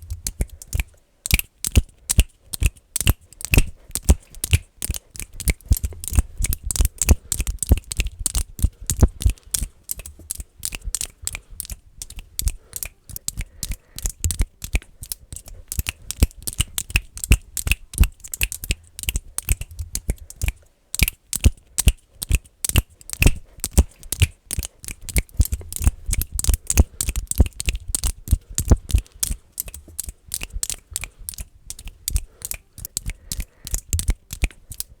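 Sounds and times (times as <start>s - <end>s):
fingers clicking: 0.0s - 35.0s.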